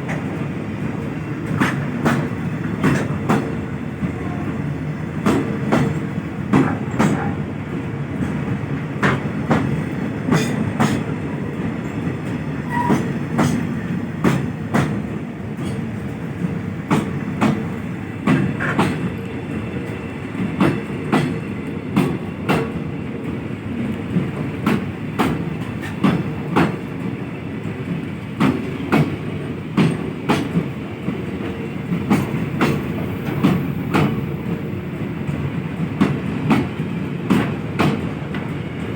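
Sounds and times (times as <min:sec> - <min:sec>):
train wheels clicking over rail joints: 0:00.0 - 0:04.4, 0:05.2 - 0:38.9
train rumbling on track: 0:00.0 - 0:38.9.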